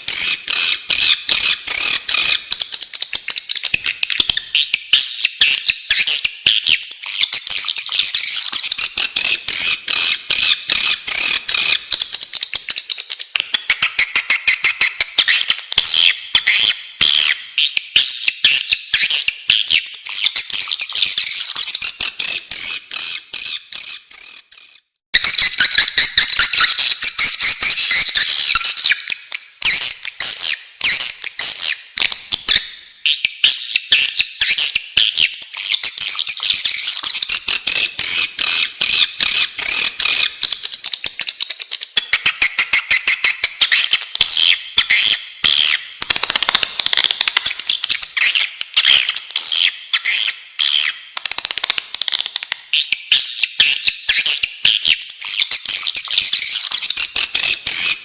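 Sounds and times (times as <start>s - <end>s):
swiftlets twittering and chirping: 0.0s - 51.2s, 52.8s - 58.0s.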